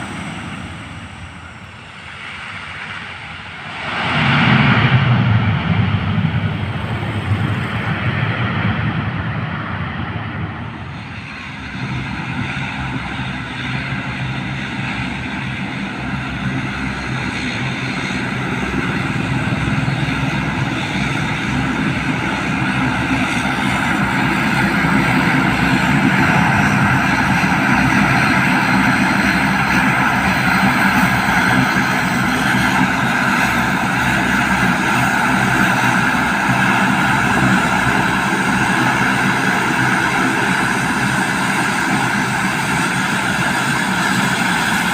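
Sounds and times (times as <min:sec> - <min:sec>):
airplane engines whining: 0:00.0 - 0:44.9.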